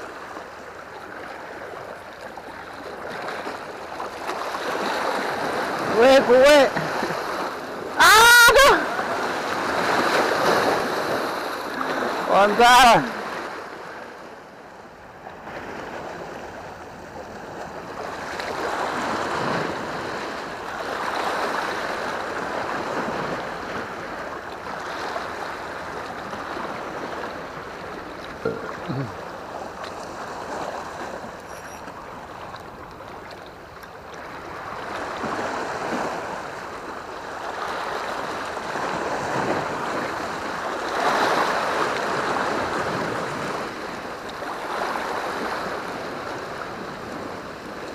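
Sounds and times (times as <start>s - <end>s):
sea waves breaking over rocks: 0.0s - 47.9s.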